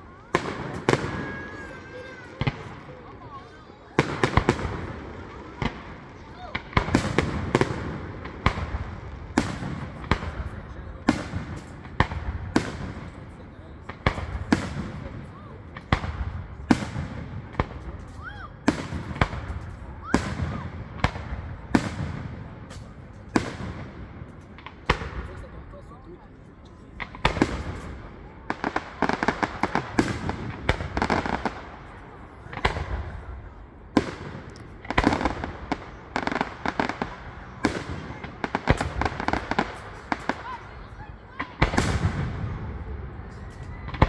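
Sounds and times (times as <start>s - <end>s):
fireworks bursting with echo: 0.0s - 44.0s.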